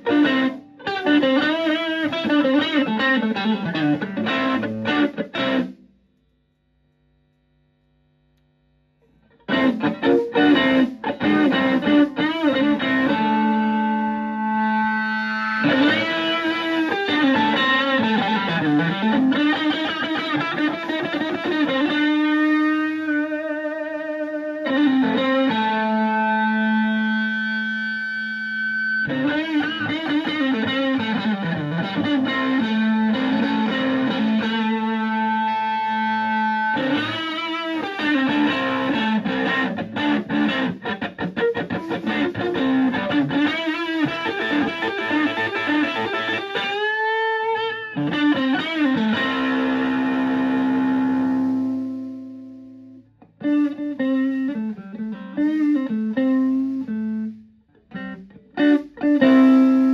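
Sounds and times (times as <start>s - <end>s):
overdriven electric guitar playing: 0.0s - 6.1s, 9.1s - 59.9s.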